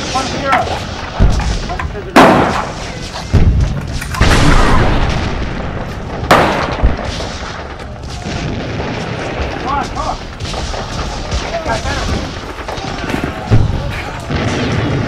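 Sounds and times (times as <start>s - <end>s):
rifle shots with echo: 0.0s - 15.0s.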